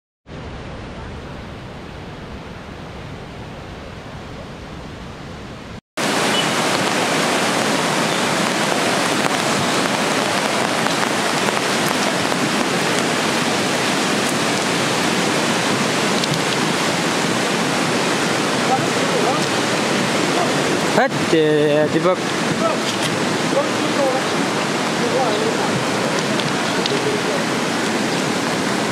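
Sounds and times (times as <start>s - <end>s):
river roaring: 0.3s - 28.9s.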